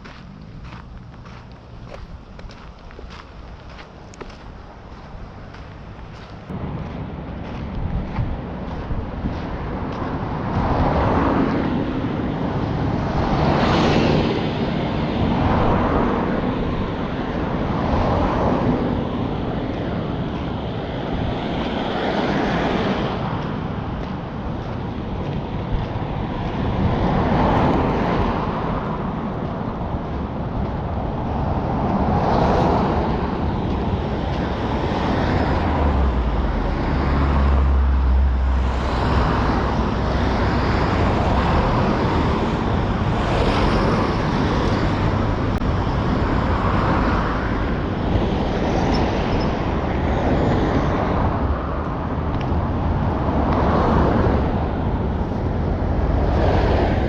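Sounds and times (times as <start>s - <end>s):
vehicles passing: 0.0s - 57.0s
wind rumble on microphone: 0.0s - 57.0s.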